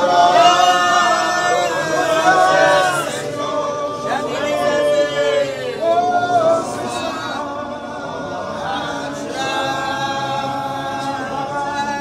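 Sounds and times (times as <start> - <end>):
group singing a church song: 0.0 - 12.0.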